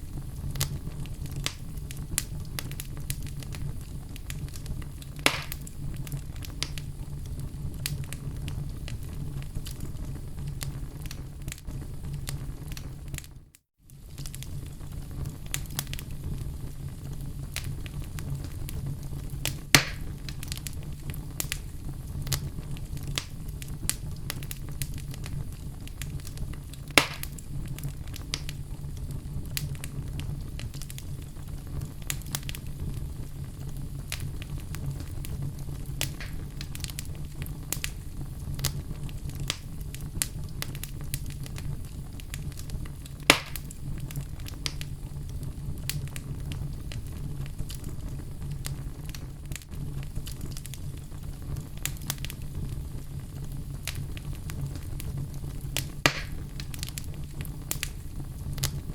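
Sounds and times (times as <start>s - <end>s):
log fire crackling: 0.0s - 58.9s
loud fire pops: 0.0s - 58.9s.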